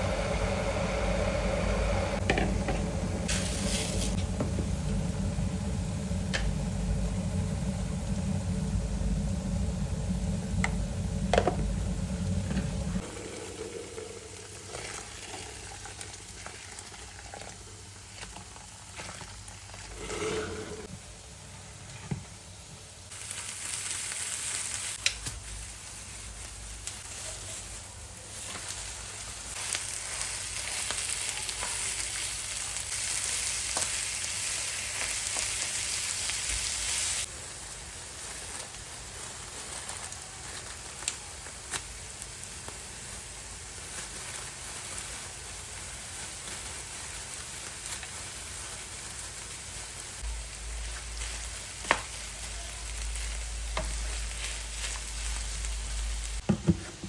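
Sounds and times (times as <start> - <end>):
food sizzling in oil: 0.0 - 56.5.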